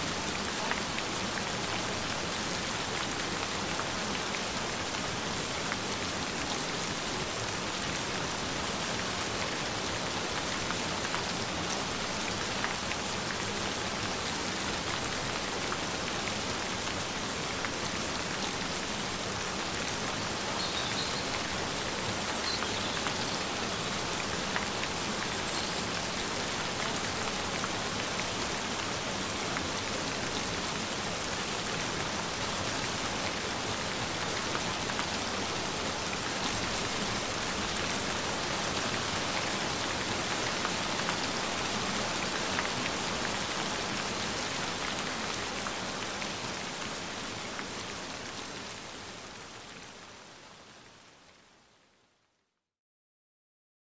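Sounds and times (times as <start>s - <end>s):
gentle rain falling: 0.0s - 52.6s.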